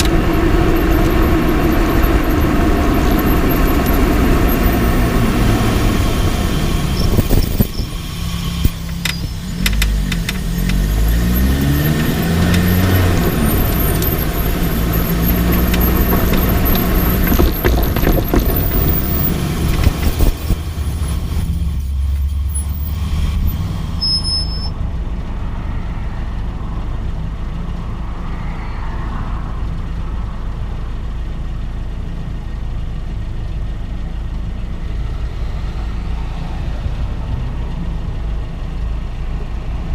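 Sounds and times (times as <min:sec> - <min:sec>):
car engine note rising and falling: 0:00.0 - 0:32.7, 0:34.0 - 0:39.9
road and running gear rumble: 0:00.0 - 0:39.9.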